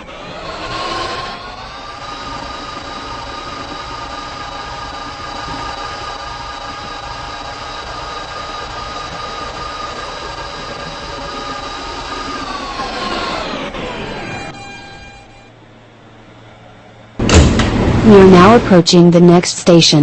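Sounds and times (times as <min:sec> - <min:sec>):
electric motor whine: 0:00.0 - 0:18.6
train wheels rumbling on track: 0:00.0 - 0:19.1.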